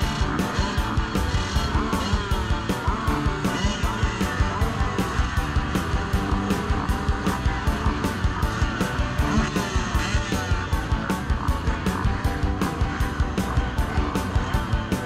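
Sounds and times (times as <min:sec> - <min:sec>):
dirt bike engines revving: 0:00.0 - 0:15.0
fast beat music: 0:00.0 - 0:15.0.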